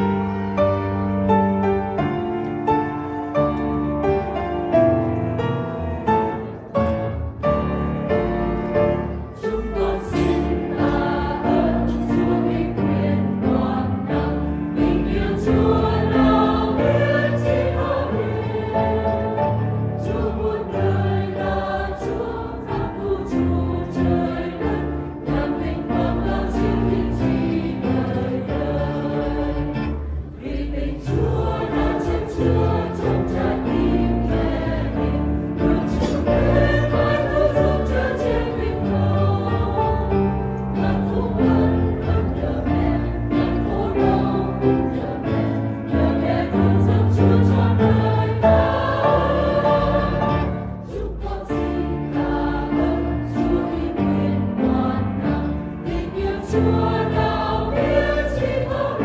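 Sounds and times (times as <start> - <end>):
mixed choir singing a hymn: 0.0 - 59.0.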